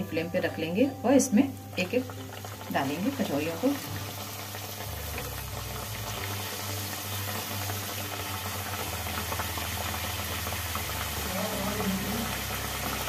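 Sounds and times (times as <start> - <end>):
food deep-frying in oil: 0.3 - 13.0.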